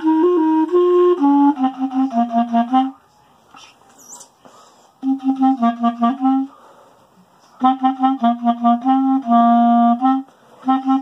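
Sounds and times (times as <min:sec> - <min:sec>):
clarinet playing: 0:00.0 - 0:04.4, 0:05.0 - 0:06.6, 0:07.6 - 0:11.0.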